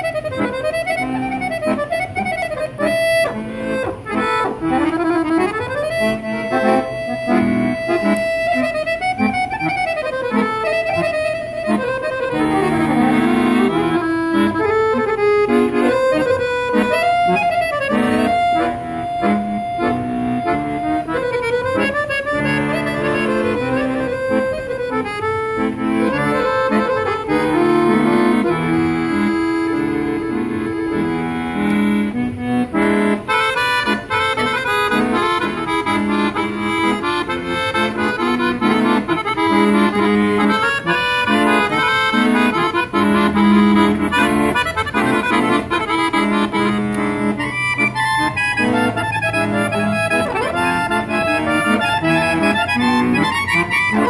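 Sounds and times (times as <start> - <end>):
accordion playing fast tune: 0.0 - 54.0.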